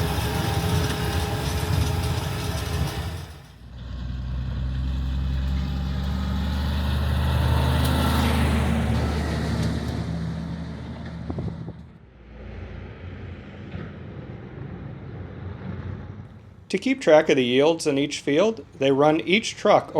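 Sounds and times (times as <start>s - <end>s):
diesel truck engine running: 0.0s - 16.2s.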